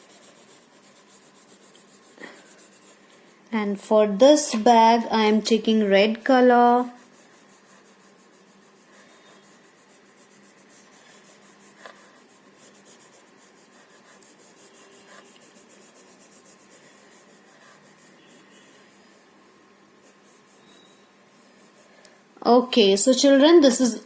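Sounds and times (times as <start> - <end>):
colouring strokes scratching paper: 0.0 - 19.4, 20.0 - 22.0.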